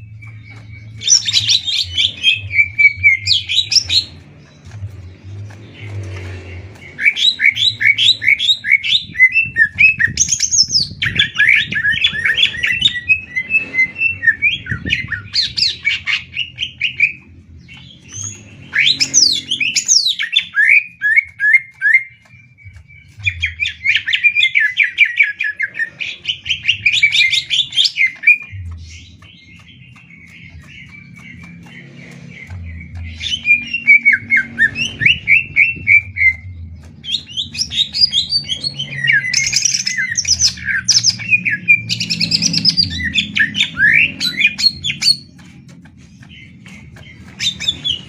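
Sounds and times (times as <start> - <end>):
birds singing rapid chirps: 0.0 - 48.0.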